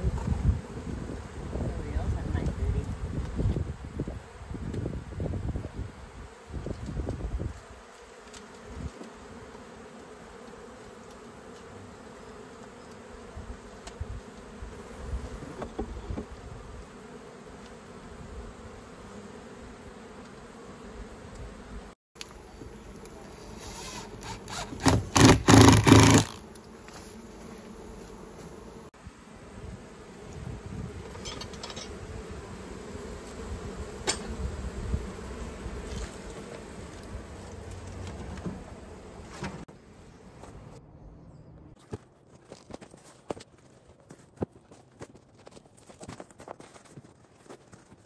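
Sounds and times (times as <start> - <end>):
bees buzzing: 0.0 - 40.8.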